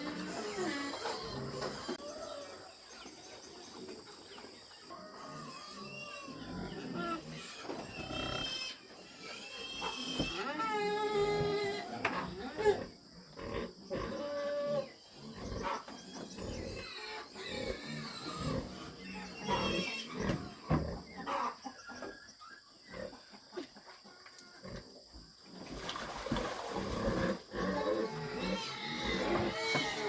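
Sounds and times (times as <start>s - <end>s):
pigs grunting and squealing: 0.0s - 3.0s, 4.6s - 23.8s, 24.4s - 30.0s.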